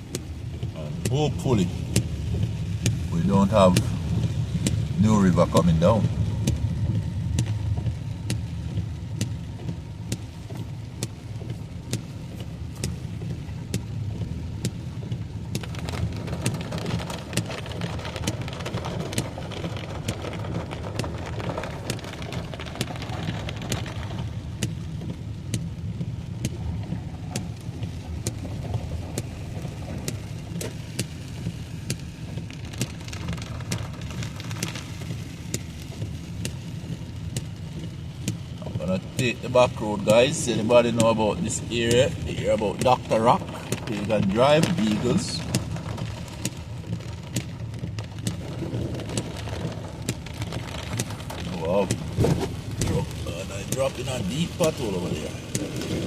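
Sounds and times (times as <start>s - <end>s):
car engine and road rumble: 0.0s - 56.0s
heavy rain drumming on car roof: 0.0s - 56.0s
rush of water: 0.0s - 56.0s.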